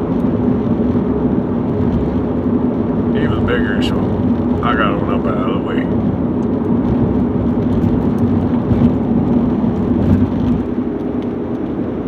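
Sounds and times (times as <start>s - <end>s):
tyres rumbling on road: 0.0s - 12.0s.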